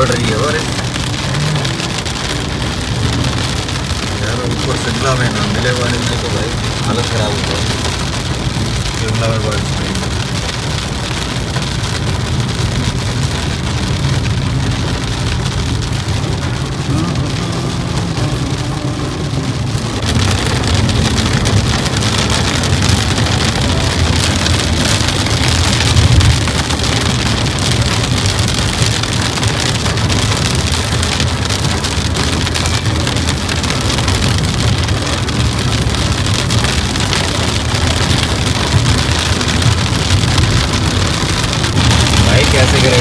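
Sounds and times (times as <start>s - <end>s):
car road drone: 0.0s - 43.0s
heavy rain on a car: 0.0s - 43.0s.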